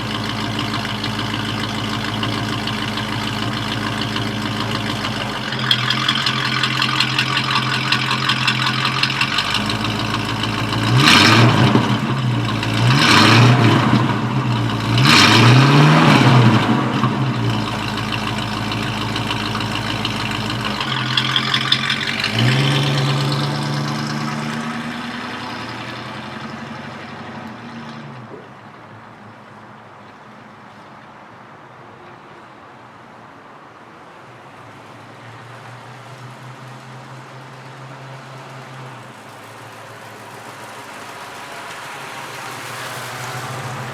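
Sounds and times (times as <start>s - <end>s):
pickup truck engine idling and revving: 0.0s - 28.8s, 34.8s - 43.9s.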